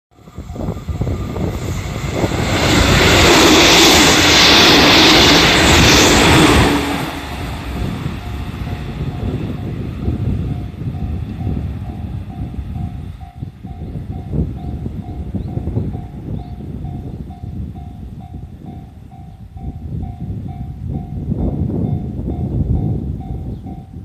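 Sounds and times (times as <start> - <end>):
crossing warning bell dinging: 0.1 - 24.0
train running noise: 0.1 - 24.0.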